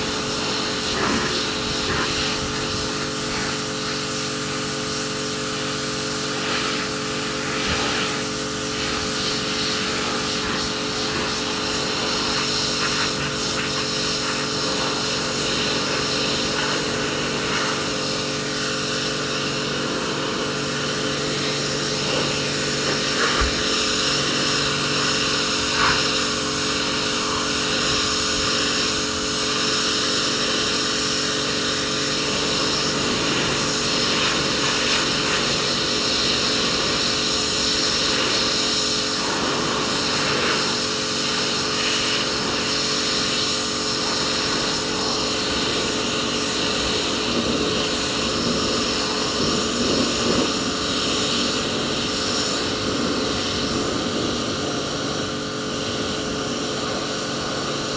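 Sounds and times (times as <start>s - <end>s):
high-pressure water spray hiss: 0.0s - 57.9s
pressure washer motor hum: 0.0s - 57.9s.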